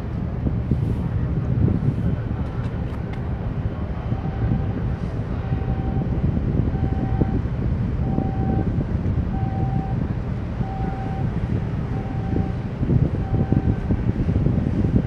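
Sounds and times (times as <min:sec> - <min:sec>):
boat engine rumbling: 0:00.0 - 0:15.0
wind on microphone: 0:00.0 - 0:15.0.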